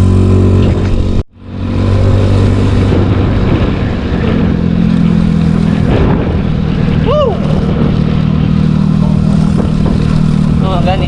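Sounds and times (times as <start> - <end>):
scooter engine running: 0.0 - 11.0
wind and road noise: 0.0 - 11.0.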